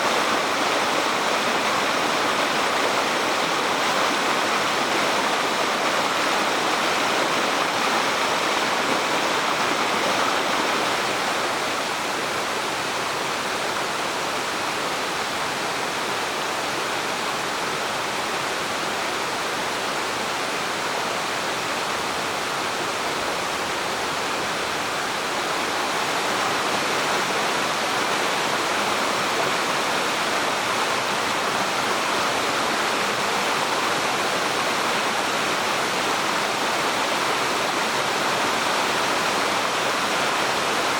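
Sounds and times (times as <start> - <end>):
mountain stream rushing: 0.0 - 40.9.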